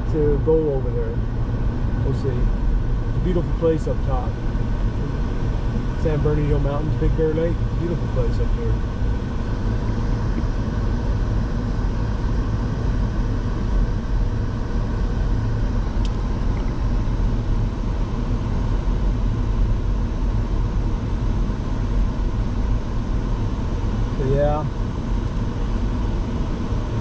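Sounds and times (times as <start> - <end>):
road and engine noise: 0.0 - 27.0.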